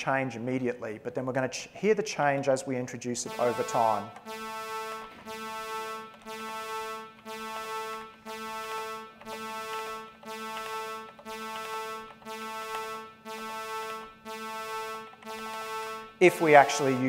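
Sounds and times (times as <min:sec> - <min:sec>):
repeated synthesizer note: 0:03.2 - 0:17.0.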